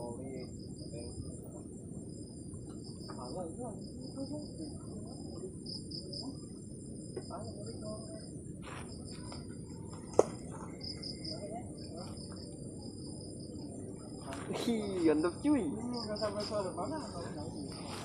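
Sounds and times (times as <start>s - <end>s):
crickets chirping: 0.0s - 18.0s
low outdoor hum: 0.0s - 18.0s.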